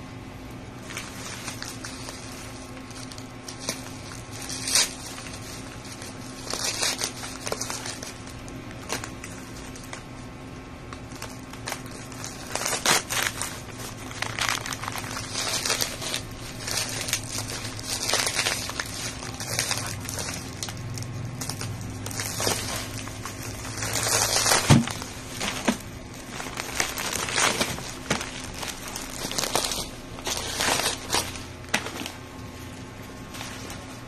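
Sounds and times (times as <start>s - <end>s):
faint steady hum: 0.0s - 34.0s
plastic wrapping crinkling: 0.8s - 34.0s.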